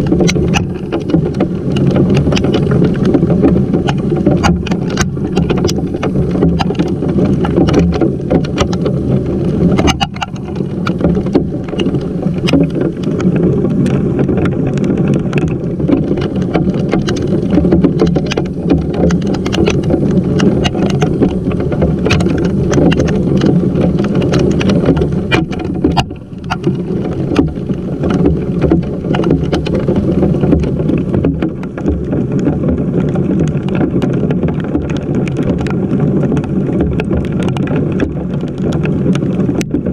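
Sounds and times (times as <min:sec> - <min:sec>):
hailstones ticking: 0:00.0 - 0:39.9.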